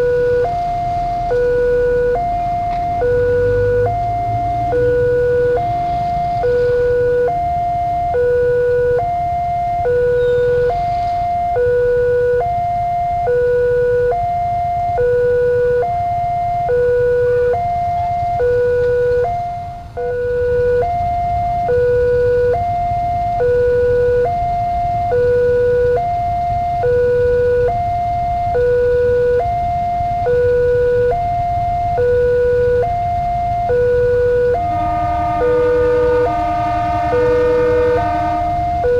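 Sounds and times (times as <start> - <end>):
two-tone electronic warning alarm: 0.0 - 38.9.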